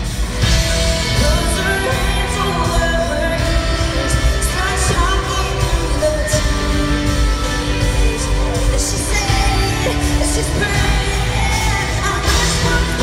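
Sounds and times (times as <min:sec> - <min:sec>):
live country-pop band: 0:00.0 - 0:13.0
woman singing: 0:01.0 - 0:13.0.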